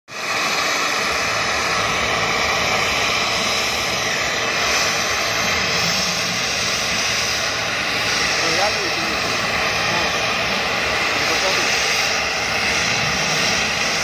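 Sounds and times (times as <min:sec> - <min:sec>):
helicopter turbine engines running: 0:00.1 - 0:14.0.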